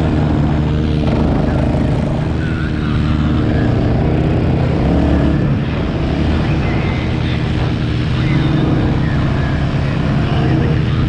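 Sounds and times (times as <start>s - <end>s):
quad engine under throttle: 0.0s - 11.0s.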